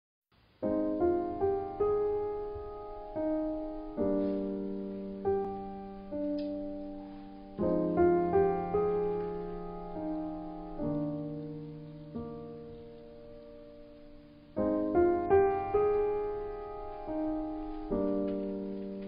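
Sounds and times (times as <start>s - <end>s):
slow piano music: 0.6s - 19.0s.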